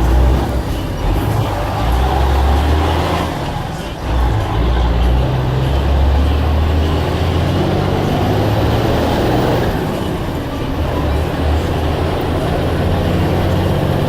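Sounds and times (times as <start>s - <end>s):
bus diesel engine rumbling: 0.0s - 14.0s
road noise: 0.0s - 14.0s.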